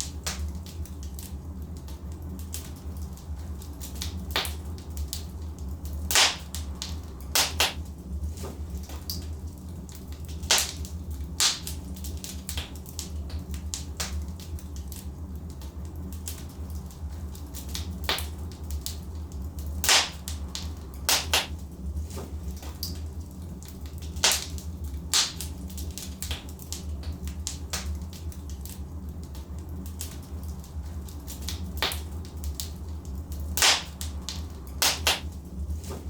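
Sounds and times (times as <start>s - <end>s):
burning logs crackling and popping: 0.0s - 36.0s
fire low rumble: 0.0s - 36.0s.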